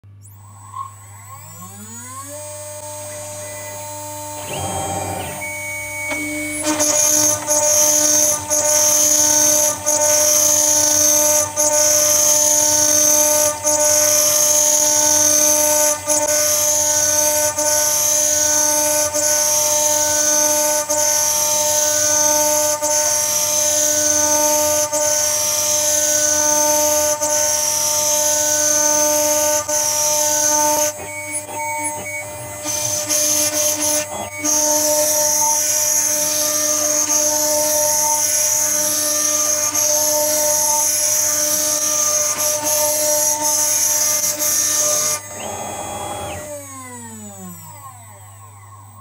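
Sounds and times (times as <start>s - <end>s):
router spindle high whine: 0.0s - 49.0s.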